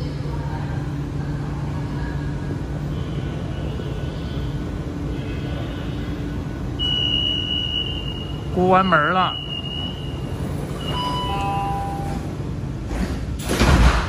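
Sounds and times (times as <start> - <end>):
train car hum and air noise: 0.0 - 14.0.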